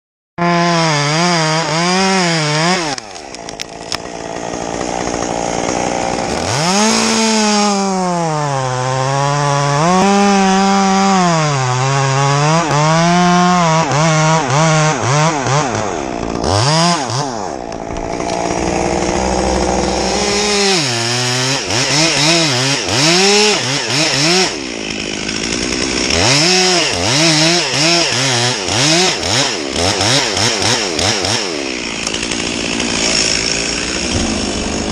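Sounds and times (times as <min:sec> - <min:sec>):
chainsaw cutting wood: 0:00.4 - 0:34.9.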